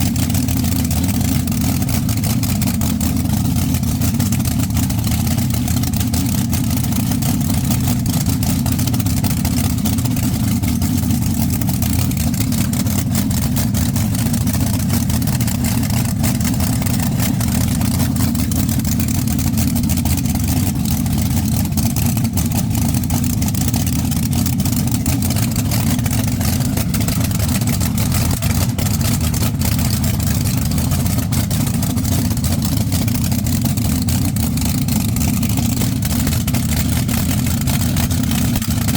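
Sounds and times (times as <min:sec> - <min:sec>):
dragster engines idling loudly: 0:00.0 - 0:38.9.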